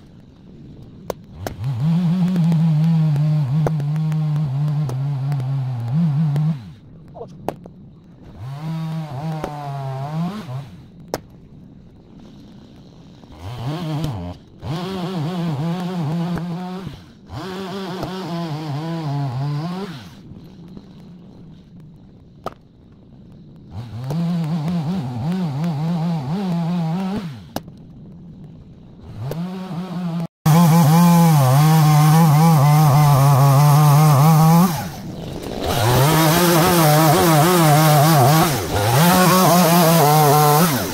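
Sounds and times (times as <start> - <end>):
chainsaw cutting logs: 0.0 - 40.9.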